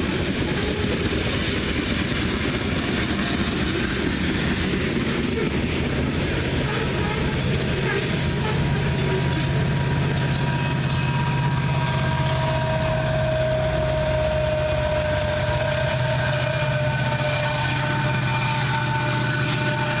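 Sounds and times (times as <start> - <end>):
train cars rumbling on rails: 0.0 - 20.0.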